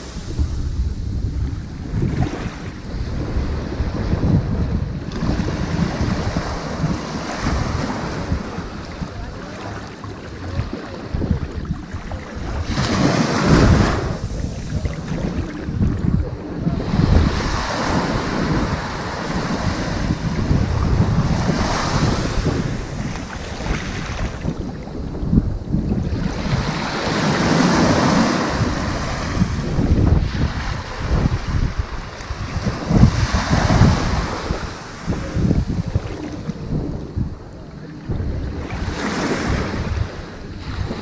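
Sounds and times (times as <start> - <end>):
ocean waves on beach: 0.0 - 41.0
wind buffeting microphone: 0.0 - 41.0.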